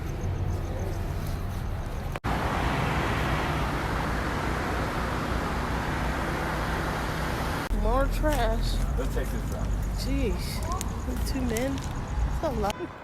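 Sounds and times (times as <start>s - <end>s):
passing car traffic: 0.0s - 13.0s.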